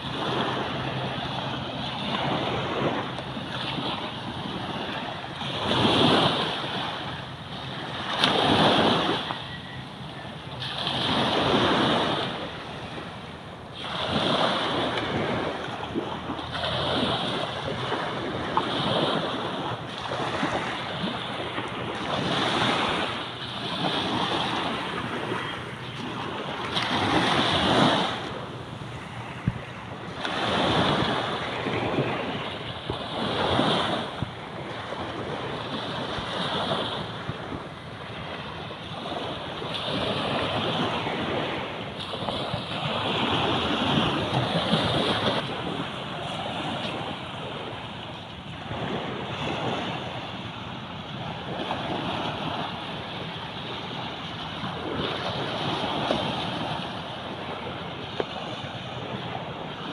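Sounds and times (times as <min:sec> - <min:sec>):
small waves lapping on shore: 0:00.0 - 0:59.9.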